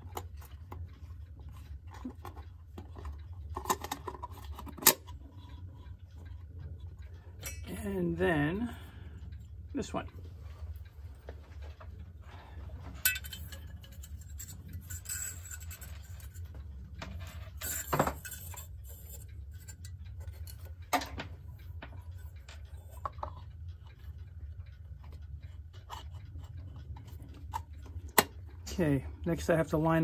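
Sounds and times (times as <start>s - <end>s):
clock plate clicking and clinking: 0.0s - 30.0s.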